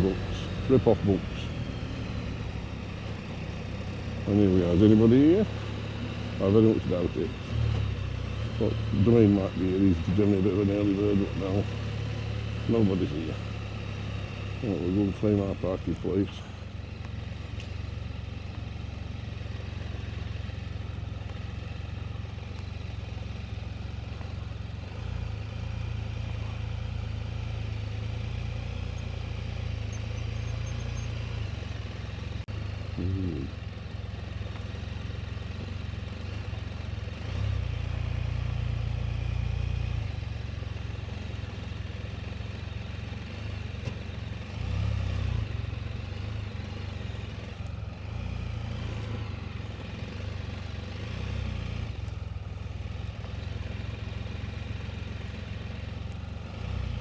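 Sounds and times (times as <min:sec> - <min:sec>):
motorcycle engine running: 0:00.0 - 0:44.7, 0:45.4 - 0:57.0.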